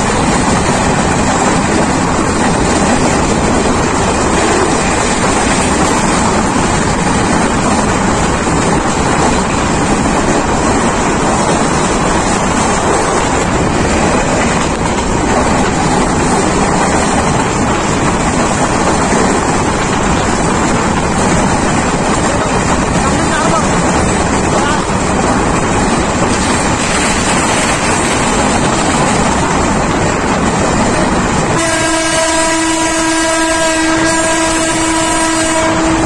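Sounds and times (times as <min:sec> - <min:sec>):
train wheels rushing on rails: 0:00.0 - 0:36.0
wind buffeting microphone: 0:00.0 - 0:36.0.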